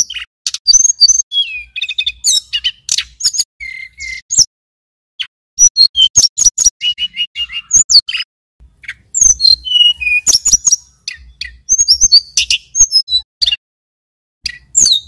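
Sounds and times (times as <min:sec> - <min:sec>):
bird singing chirps and whistles: 0:00.0 - 0:04.5, 0:05.2 - 0:13.6, 0:14.4 - 0:15.0.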